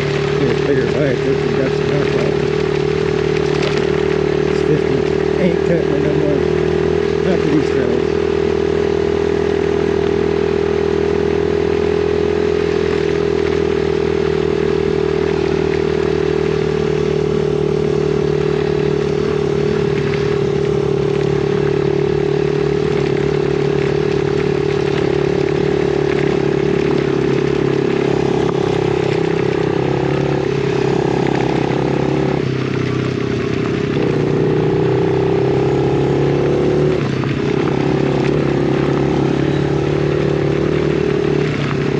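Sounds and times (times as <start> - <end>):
pit bike engine revving high: 0.0 - 41.9.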